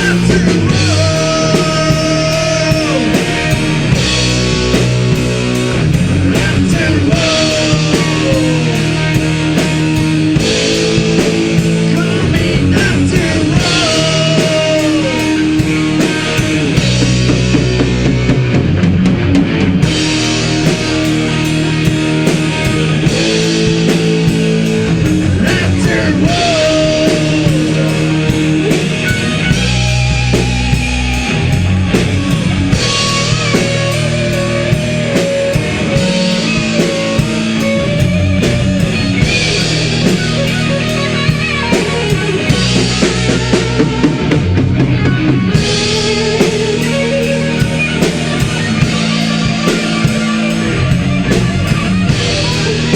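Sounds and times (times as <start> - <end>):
bending guitar lead lines: 0.0 - 52.9
distorted electric guitars: 0.0 - 52.9
drum kit beat: 0.0 - 52.9.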